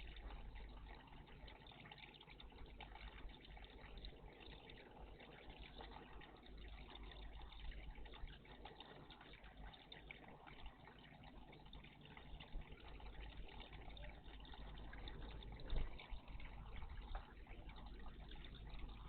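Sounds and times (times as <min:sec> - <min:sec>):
small drips and splashes: 0:00.0 - 0:19.0
water trickling: 0:00.0 - 0:19.0.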